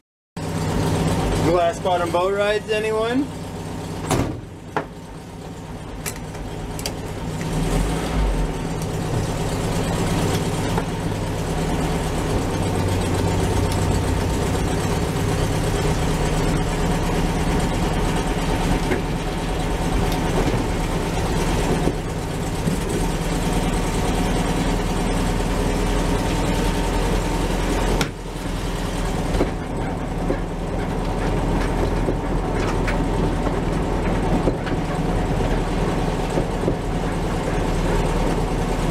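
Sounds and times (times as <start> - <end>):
car engine running: 0.4 - 38.9.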